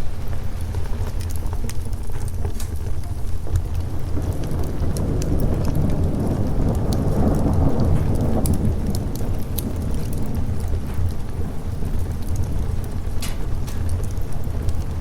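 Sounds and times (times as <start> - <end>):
steady rain: 0.0 - 15.0
thunder rumbling: 0.0 - 15.0
wood fire crackling: 0.0 - 15.0.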